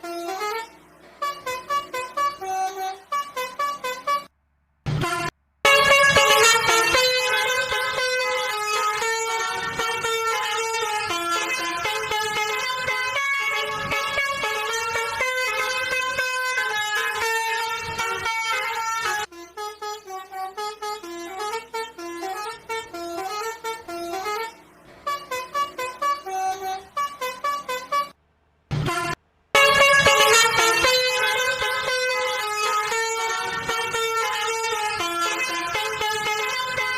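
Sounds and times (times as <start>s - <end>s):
bus horn playing a melody: 0.0s - 4.3s, 5.0s - 36.9s.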